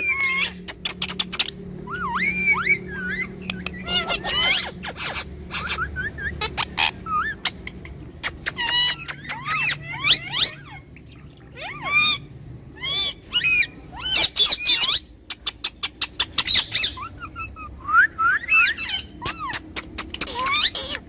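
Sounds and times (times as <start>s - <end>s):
parrots screeching: 0.0s - 21.0s.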